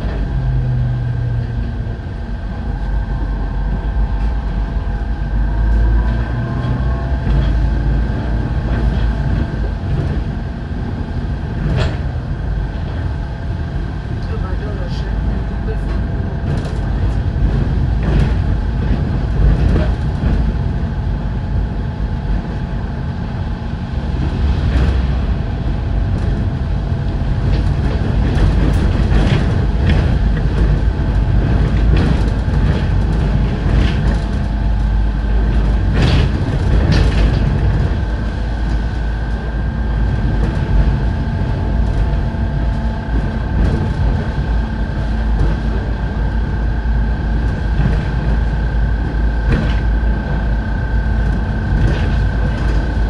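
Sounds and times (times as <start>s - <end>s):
bodywork rattles and knocks: 0.0s - 14.4s, 15.2s - 23.2s, 23.8s - 53.0s
bus diesel engine drone: 0.0s - 53.0s
road rumble: 0.0s - 53.0s.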